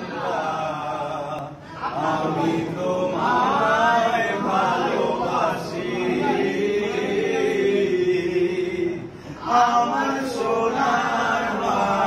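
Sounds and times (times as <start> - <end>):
men singing slow chant: 0.0 - 12.0.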